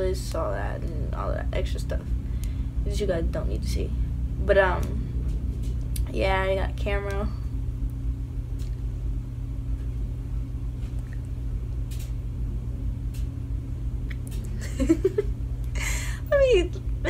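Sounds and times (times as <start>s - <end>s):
low rumble: 0.0s - 17.0s
steady low hum: 0.0s - 17.0s.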